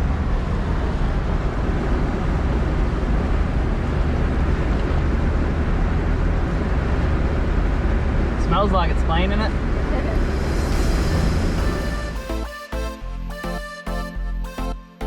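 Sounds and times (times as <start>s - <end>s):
engine and drivetrain rumble: 0.0s - 12.4s.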